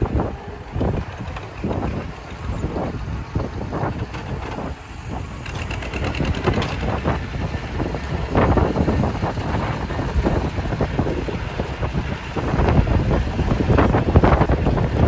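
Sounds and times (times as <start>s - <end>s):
wind buffeting microphone: 0.0s - 15.0s
rapid rattle: 0.6s - 15.0s.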